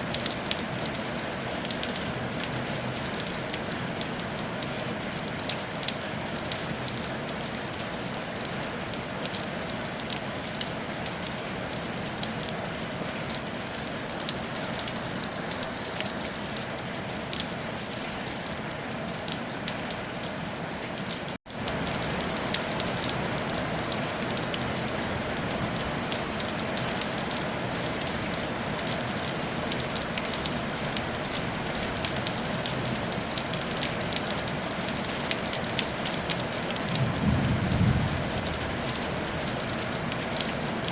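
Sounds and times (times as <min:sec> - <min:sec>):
rain on a tile roof: 0:00.0 - 0:40.9.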